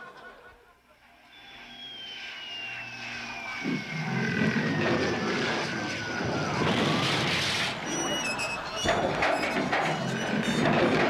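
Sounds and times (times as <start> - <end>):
jet airplane flyover: 0.9 - 11.0.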